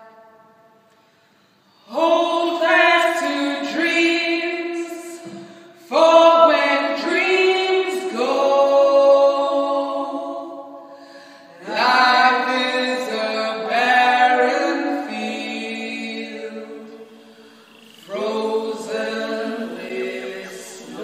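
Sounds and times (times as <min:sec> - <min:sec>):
unaccompanied voices singing: 0:01.8 - 0:21.0.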